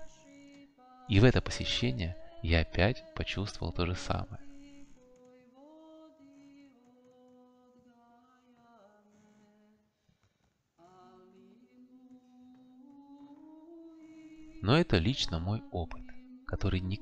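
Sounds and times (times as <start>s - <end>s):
faint a cappella vocal chant: 0.0s - 9.9s, 10.8s - 17.0s.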